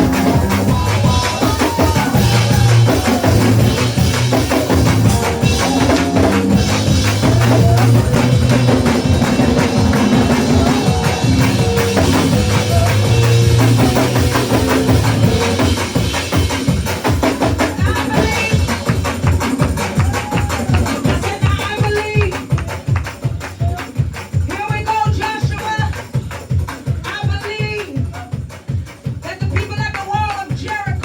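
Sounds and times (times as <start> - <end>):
drums and tambourine beat: 0.0 - 31.0
gospel church music: 0.0 - 31.0.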